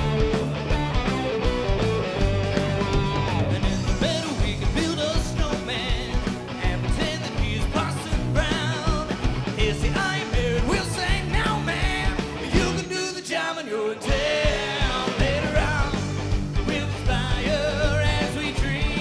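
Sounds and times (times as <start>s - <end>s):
bass: 0.0s - 13.0s, 14.1s - 19.0s
electric guitar: 0.0s - 13.2s, 13.9s - 19.0s
drums: 0.0s - 19.0s.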